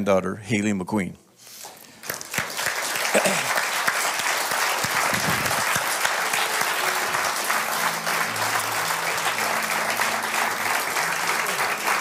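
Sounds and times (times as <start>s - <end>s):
congregation applauding: 1.8s - 12.0s.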